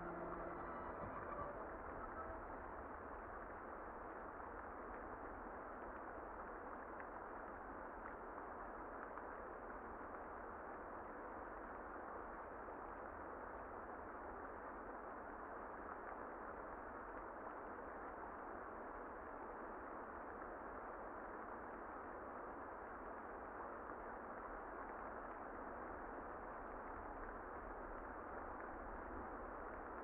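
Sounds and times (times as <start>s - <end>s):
muffled rain: 0.0s - 30.0s.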